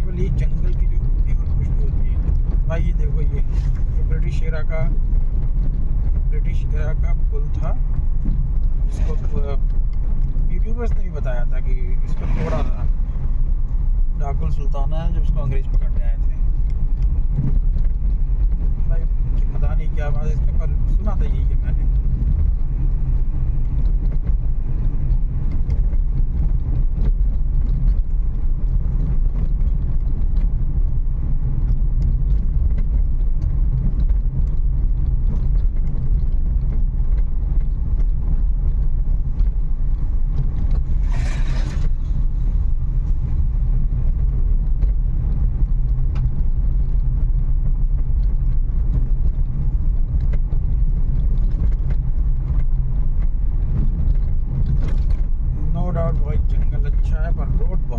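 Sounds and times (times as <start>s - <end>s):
car driving on rough road: 0.0s - 57.9s.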